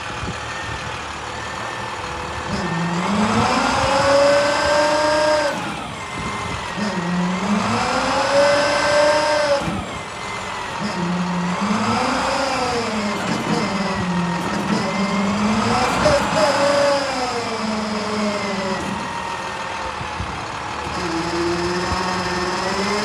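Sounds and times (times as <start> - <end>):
truck diesel engine revving: 0.0 - 23.0.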